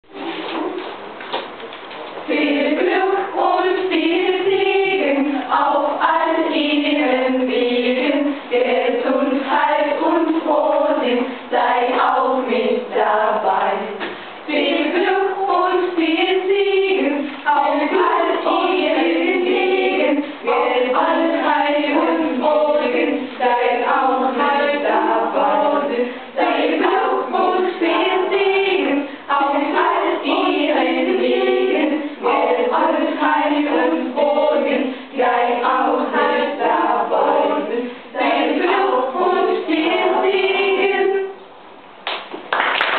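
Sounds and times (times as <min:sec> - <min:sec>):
choir of young women singing: 0:02.2 - 0:41.6.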